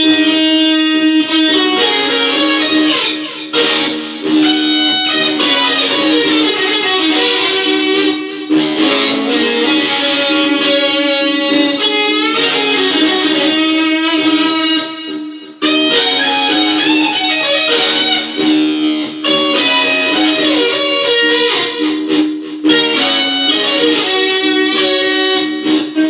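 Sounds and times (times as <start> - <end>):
electric guitar blues: 0.0 - 26.0.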